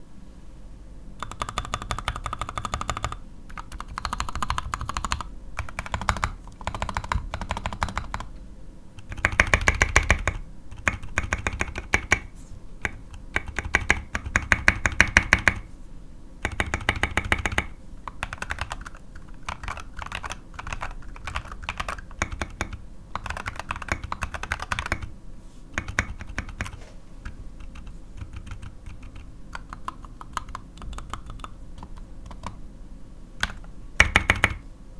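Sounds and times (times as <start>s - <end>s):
fast typing on mechanical keyboard: 1.2s - 8.4s, 9.0s - 15.7s, 16.4s - 25.1s, 25.8s - 32.6s, 33.4s - 34.6s.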